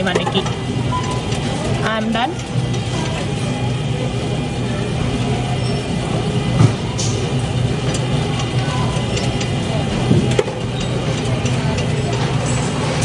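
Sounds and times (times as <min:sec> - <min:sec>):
coin sorting machine whirring: 0:00.0 - 0:13.0.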